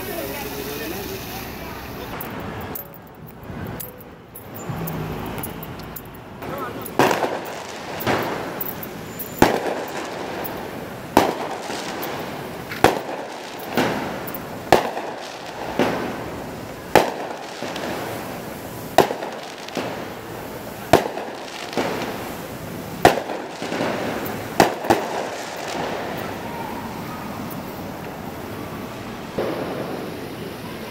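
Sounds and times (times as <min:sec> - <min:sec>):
fireworks banging: 0:00.0 - 0:30.9.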